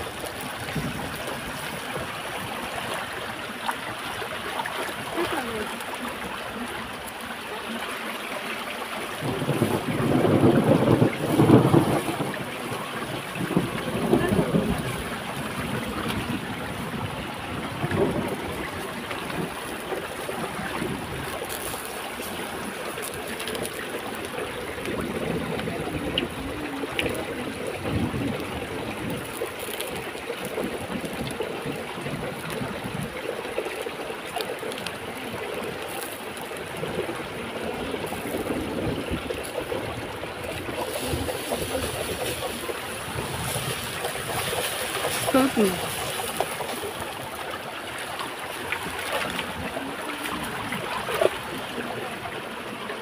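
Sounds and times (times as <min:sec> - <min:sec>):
stream over rocks: 0:00.0 - 0:53.0.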